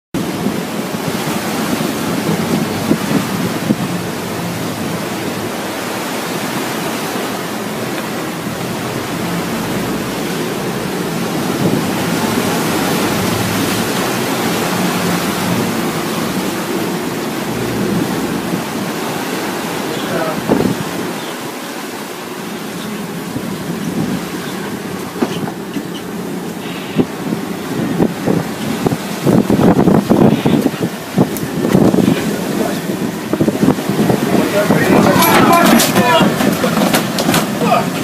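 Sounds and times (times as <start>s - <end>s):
sea water rushing: 0.1s - 38.0s
wind buffeting microphone: 0.1s - 38.0s.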